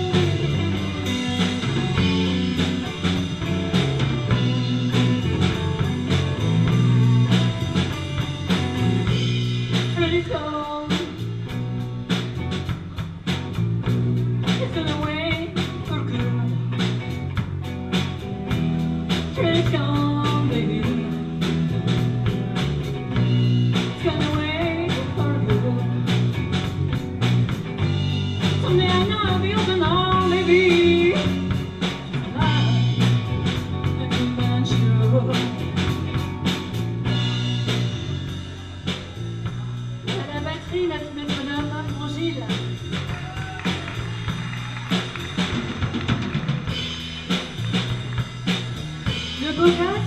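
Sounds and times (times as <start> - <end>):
electric guitars: 0.0 - 40.1, 40.8 - 50.0
bass: 0.0 - 50.0
bending lead melody: 0.0 - 50.0
drum kit: 0.0 - 50.0.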